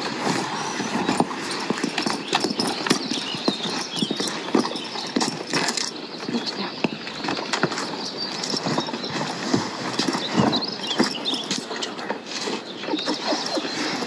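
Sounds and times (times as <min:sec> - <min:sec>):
hooves clip-clopping on pavement: 0:00.0 - 0:14.0
leather bags rustling and bumping: 0:00.0 - 0:14.0.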